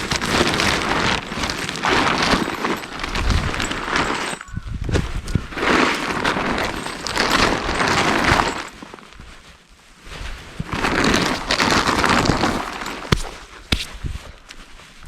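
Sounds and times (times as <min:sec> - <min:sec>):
crunching and rustling: 0:00.0 - 0:15.0.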